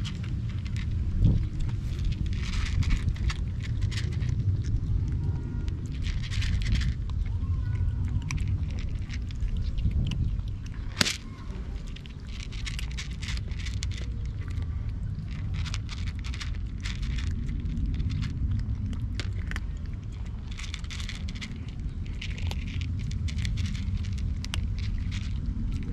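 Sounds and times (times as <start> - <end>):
cats crunching dry kibble: 0.0 - 25.9
steady low rumble: 0.0 - 25.9.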